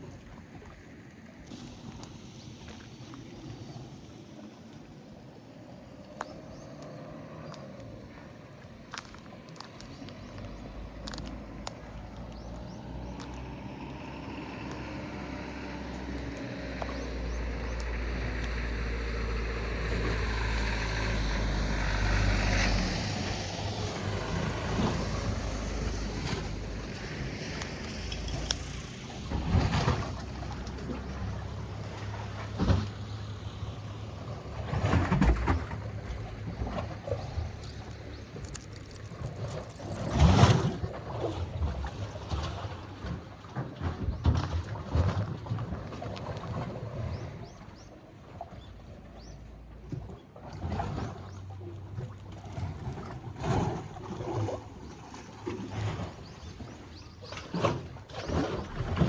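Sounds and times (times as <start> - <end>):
engine passing: 9.4 - 59.0.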